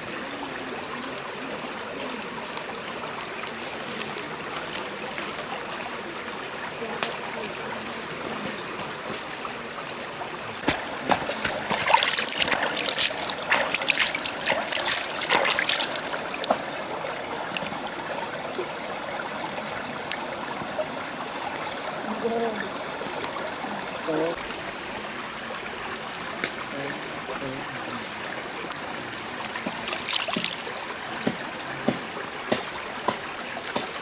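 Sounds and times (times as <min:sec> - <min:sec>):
stream water running: 0:00.0 - 0:34.0
water splashes: 0:00.0 - 0:34.0.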